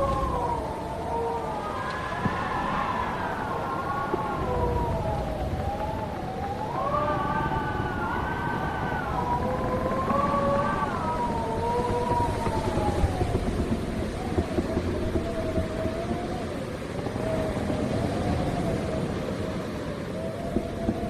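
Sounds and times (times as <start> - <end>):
howling wind whistling: 0.0 - 21.0
low wind rumble: 0.0 - 21.0.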